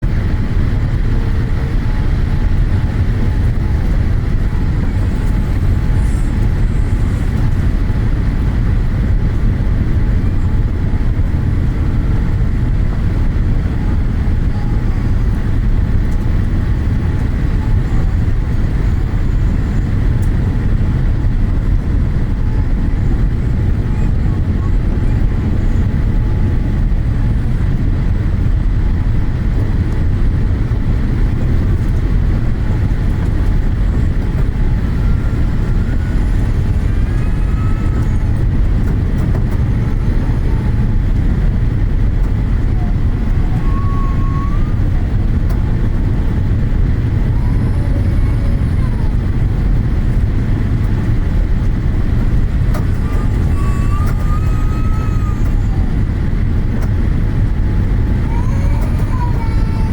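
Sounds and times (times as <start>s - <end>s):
gusty wind on microphone: 0.0s - 59.9s.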